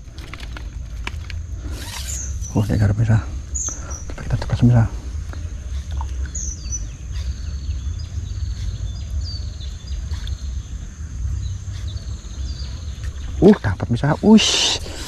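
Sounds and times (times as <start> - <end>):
high insect drone: 0.0 - 15.0
low rumble: 0.0 - 15.0
bird chirps: 1.7 - 15.0.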